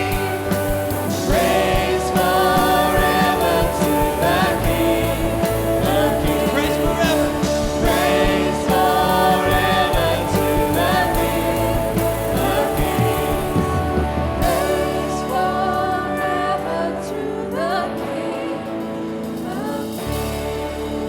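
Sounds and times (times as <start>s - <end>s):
band playing worship music: 0.0s - 21.0s
people singing: 0.0s - 21.0s.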